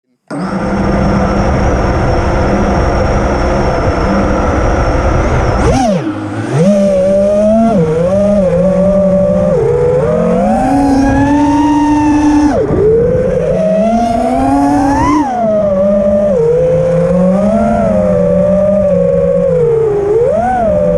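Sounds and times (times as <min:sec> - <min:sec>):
drone motors whining: 0:00.3 - 0:20.9.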